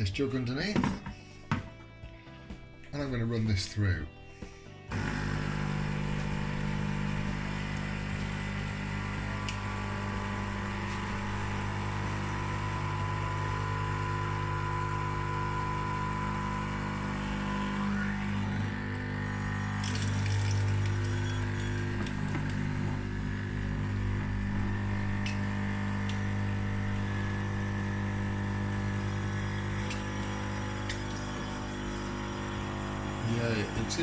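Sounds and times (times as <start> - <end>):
espresso machine pump buzzing: 4.9 - 34.0.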